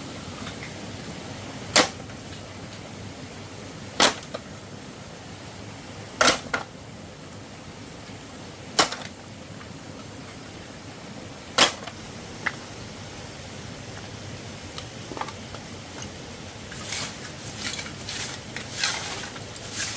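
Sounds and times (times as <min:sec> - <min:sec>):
steady background hiss: 0:00.0 - 0:19.9.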